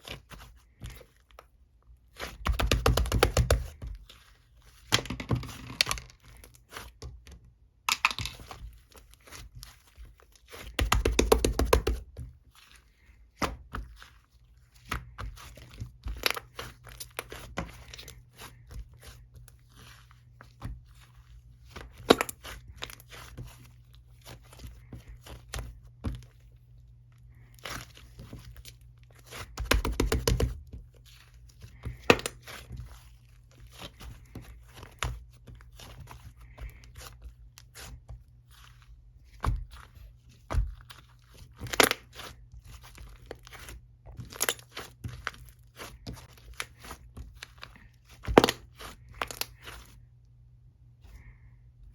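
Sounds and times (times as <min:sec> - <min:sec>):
crunching and crinkling: 0:00.0 - 0:11.1, 0:11.9 - 0:50.3.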